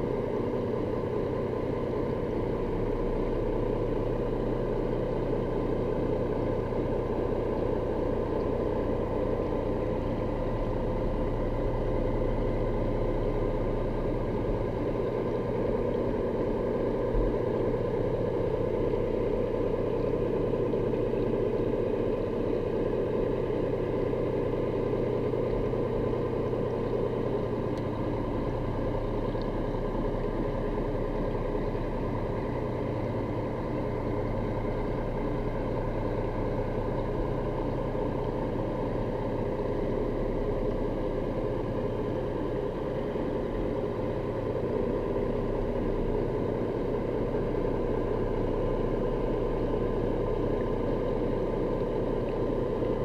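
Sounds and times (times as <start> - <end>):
boat engine drone underwater: 0.0 - 53.0.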